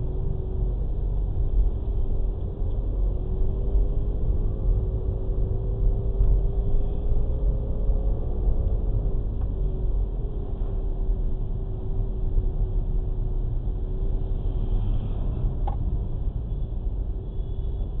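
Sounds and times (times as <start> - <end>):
car driving rumble: 0.0 - 18.0.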